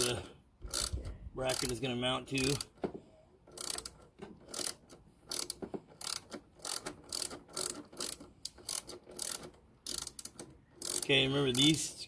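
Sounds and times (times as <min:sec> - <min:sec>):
hand ratchet clicking: 0:00.0 - 0:01.8, 0:02.4 - 0:02.8, 0:03.5 - 0:11.8.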